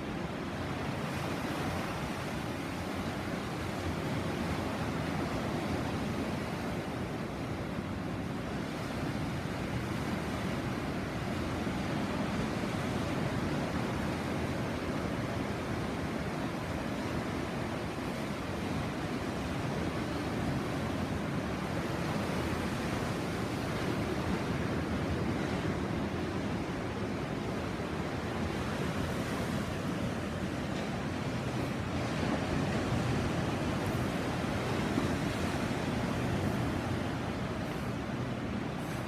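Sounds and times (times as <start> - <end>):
sea waves washing in: 0.0 - 39.0.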